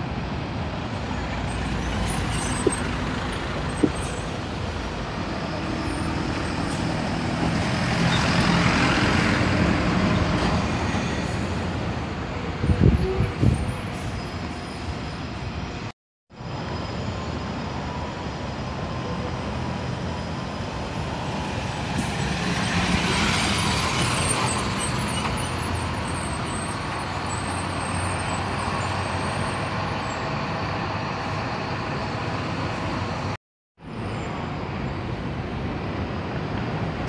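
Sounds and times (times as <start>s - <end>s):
bus driving past: 0.0s - 37.0s
other buses running: 0.0s - 37.0s.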